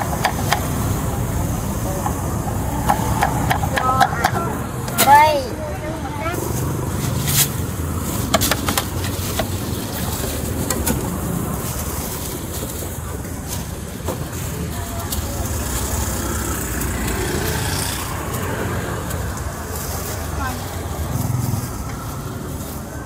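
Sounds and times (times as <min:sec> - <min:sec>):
low traffic rumble: 0:00.0 - 0:23.0.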